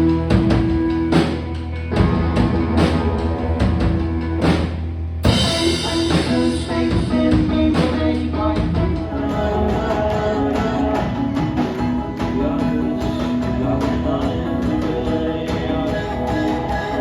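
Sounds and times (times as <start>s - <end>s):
drums: 0.0s - 17.0s
strummed electric guitars: 0.0s - 17.0s.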